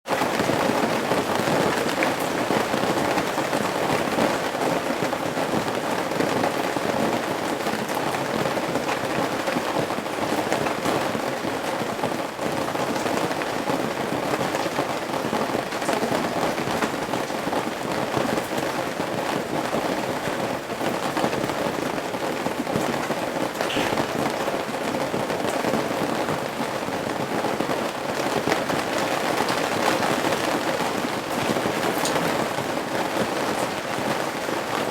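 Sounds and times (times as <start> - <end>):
rain running off roof eaves: 0.0 - 34.9.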